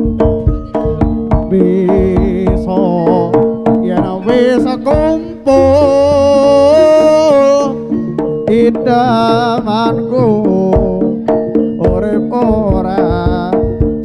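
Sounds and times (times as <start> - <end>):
hand drum strokes: 0.0 - 14.0
steady held tones: 0.0 - 14.0.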